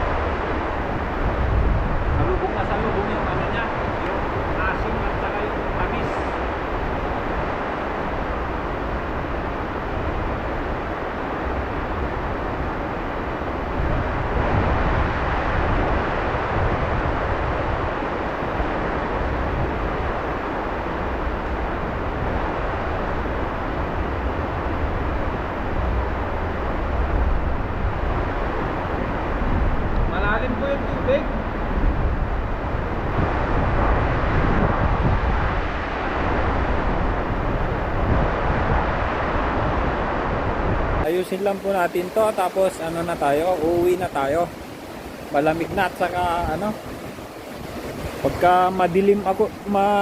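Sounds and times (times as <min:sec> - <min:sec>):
steady rushing noise: 0:00.0 - 0:50.0.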